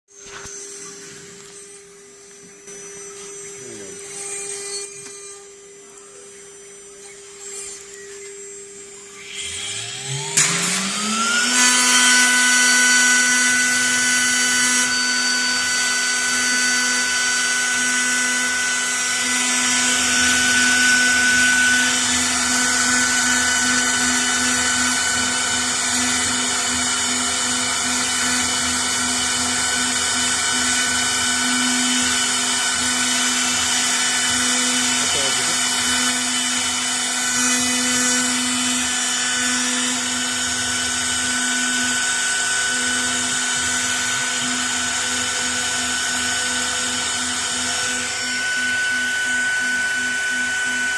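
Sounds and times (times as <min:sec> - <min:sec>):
router spindle whining: 0:00.1 - 0:50.9.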